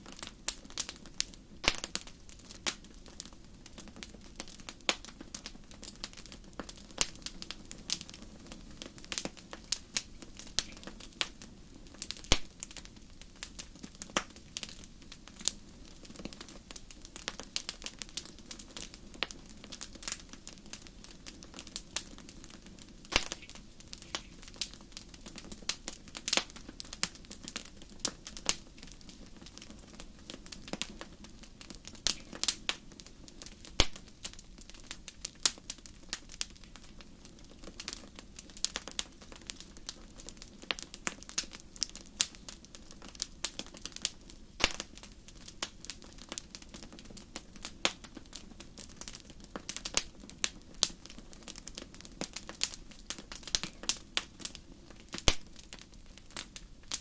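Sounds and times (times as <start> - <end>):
fire popping and snapping: 0.0 - 57.0.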